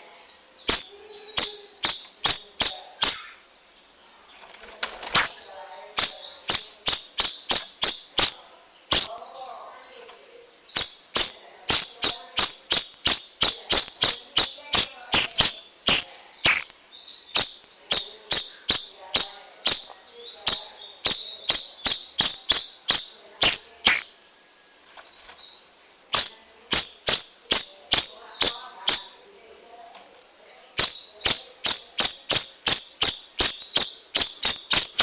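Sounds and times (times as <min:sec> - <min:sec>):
bird chipping calls: 0:00.6 - 0:24.4, 0:25.2 - 0:29.5, 0:30.8 - 0:35.0.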